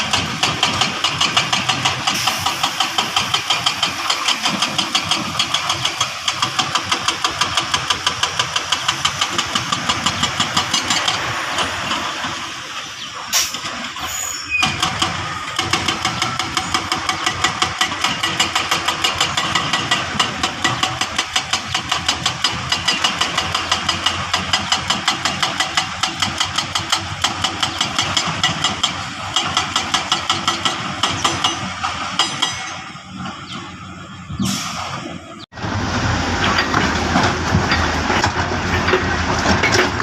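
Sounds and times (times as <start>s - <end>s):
diesel engine clattering: 0.0s - 40.0s.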